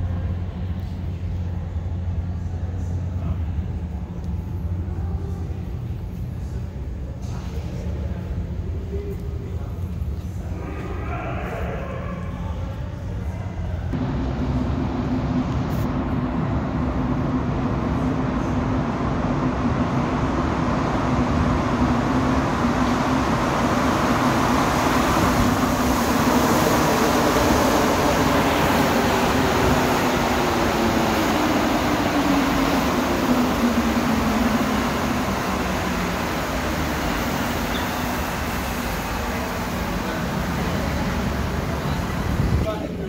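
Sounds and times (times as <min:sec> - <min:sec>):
metro train arriving: 0:00.0 - 0:43.0.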